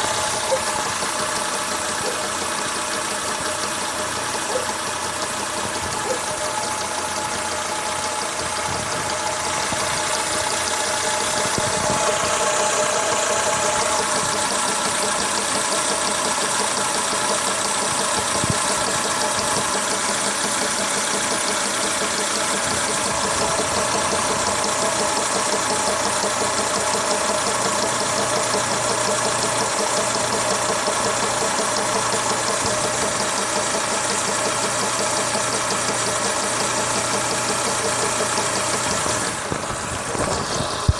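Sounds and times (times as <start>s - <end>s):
car engine idling with knocking: 0.0s - 40.9s.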